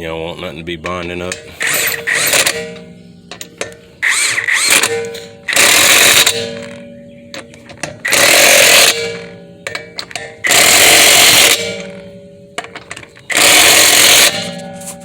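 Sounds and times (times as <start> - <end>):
impact wrench hammering: 0.9 - 15.0.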